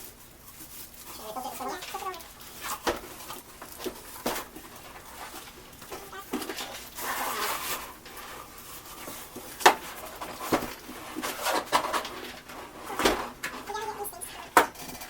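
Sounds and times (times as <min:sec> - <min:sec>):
cardboard and packaging rustling: 0:00.0 - 0:14.5.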